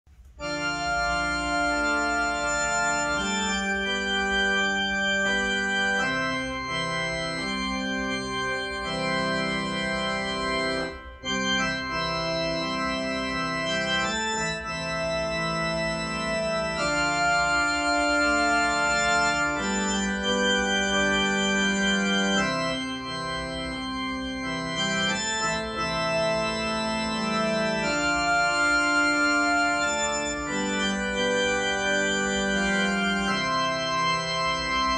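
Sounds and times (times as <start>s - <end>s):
keyboard organ hymn chords: 0.1s - 34.9s.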